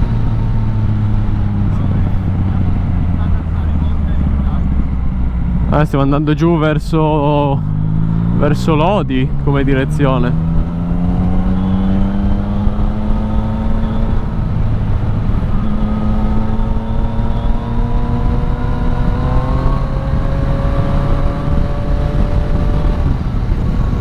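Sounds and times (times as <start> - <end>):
motorcycle engine running: 0.0 - 24.0
wind rush: 0.0 - 24.0.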